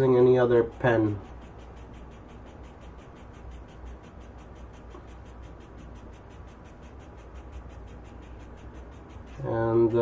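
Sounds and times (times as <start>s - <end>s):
small motor whirring and ticking: 0.0s - 10.0s.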